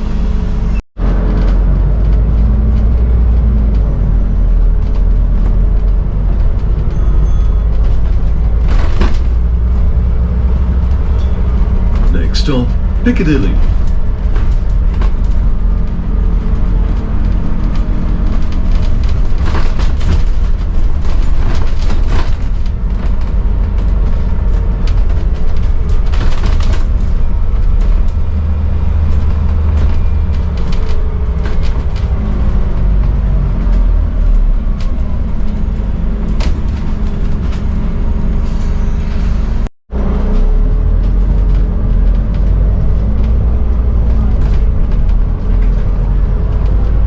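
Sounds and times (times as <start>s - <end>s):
bus diesel engine rumbling: 0.0s - 47.0s
bus body knocks and rattles: 1.0s - 47.0s.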